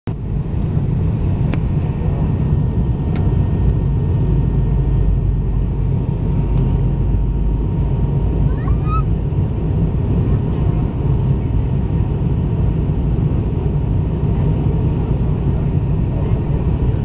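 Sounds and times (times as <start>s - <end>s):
jet engine cabin rumble: 0.1s - 17.0s.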